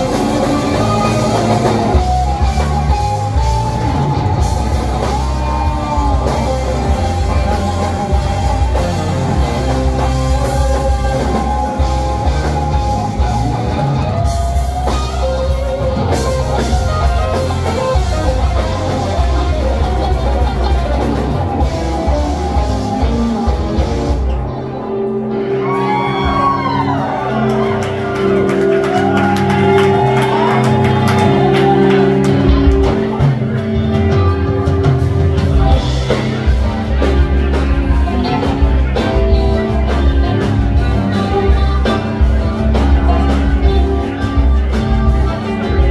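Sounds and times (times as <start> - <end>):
live rock band playing loudly: 0.0 - 45.9.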